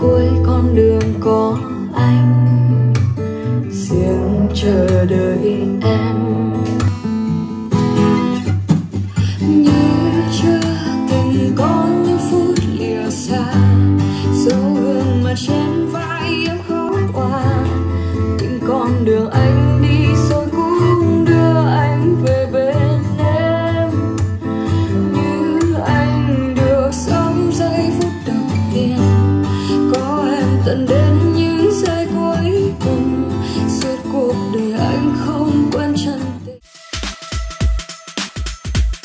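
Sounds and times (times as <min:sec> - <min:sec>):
person singing: 0:00.0 - 0:06.9, 0:09.1 - 0:36.7
acoustic guitar: 0:00.0 - 0:39.0.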